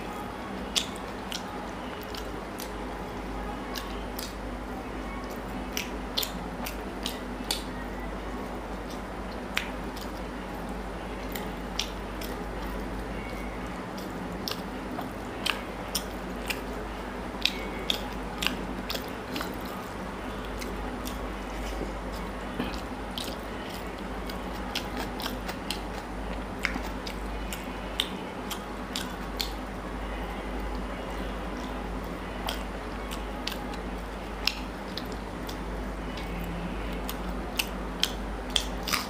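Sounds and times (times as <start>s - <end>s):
close-miked chewing: 0.0s - 39.0s
steady low hum: 0.0s - 39.0s.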